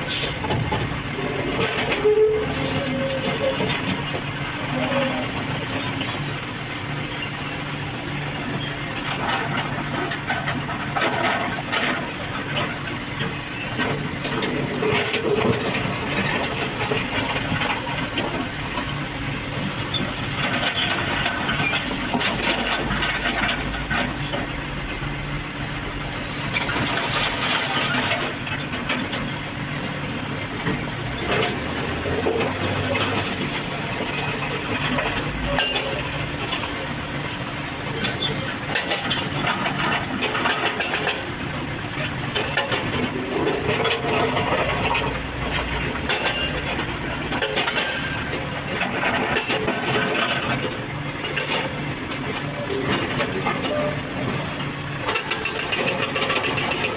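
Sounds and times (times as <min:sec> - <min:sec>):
excavator diesel engine running: 0:00.0 - 0:56.9
knocks and scraping clatter: 0:00.1 - 0:06.4, 0:08.3 - 0:25.3, 0:26.2 - 0:56.9.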